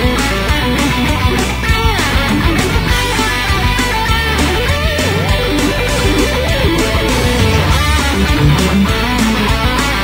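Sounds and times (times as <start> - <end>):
guitar music with steady beat: 0.0 - 10.0.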